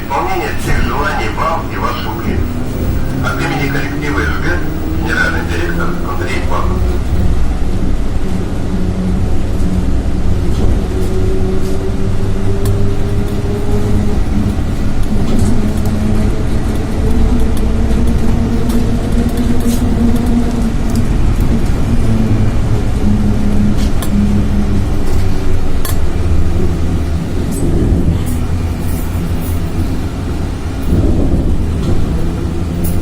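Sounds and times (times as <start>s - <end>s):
low road rumble: 0.0s - 33.0s.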